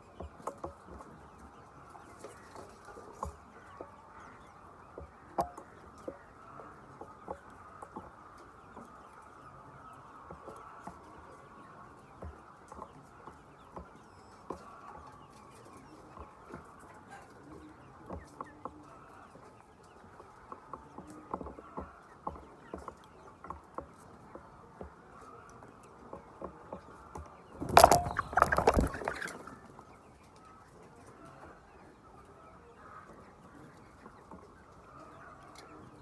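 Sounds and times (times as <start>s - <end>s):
chickens clucking softly: 0.0s - 36.0s.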